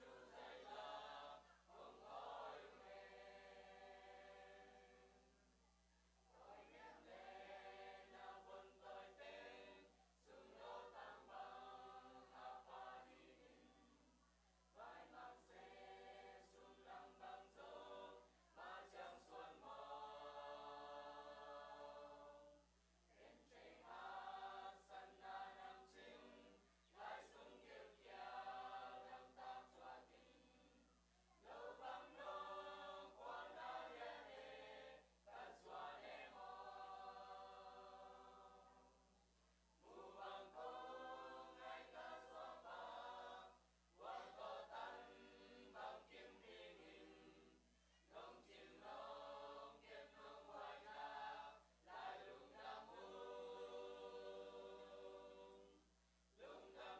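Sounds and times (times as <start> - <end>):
youth choir singing: 0.0 - 5.3, 6.4 - 14.1, 14.7 - 38.9, 39.8 - 55.8, 56.4 - 56.9.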